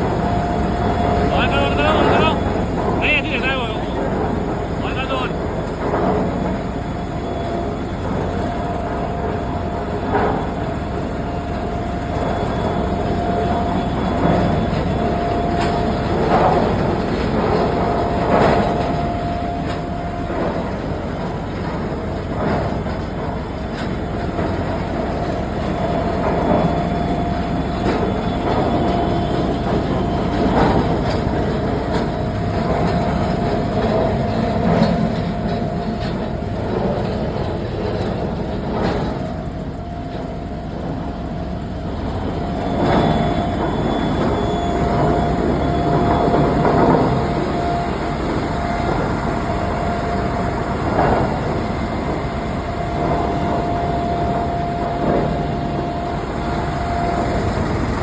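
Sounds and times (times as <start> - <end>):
machine rumbling with whine: 0.0 - 58.0.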